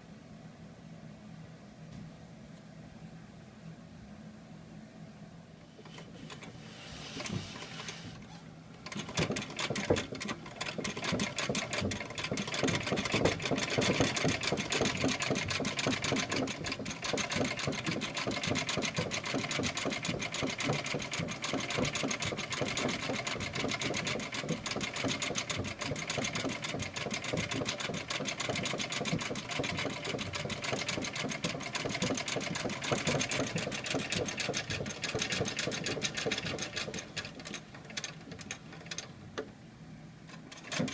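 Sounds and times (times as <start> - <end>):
sewing machine clatter: 5.8 - 8.2, 8.8 - 39.2, 40.3 - 40.9.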